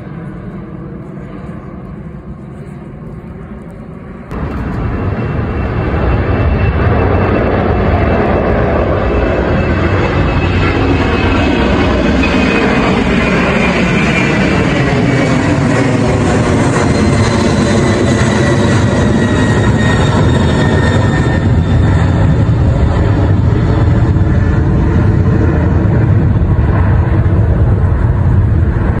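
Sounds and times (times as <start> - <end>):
aircraft engine roar: 0.0 - 29.0
high engine whine: 0.0 - 29.0.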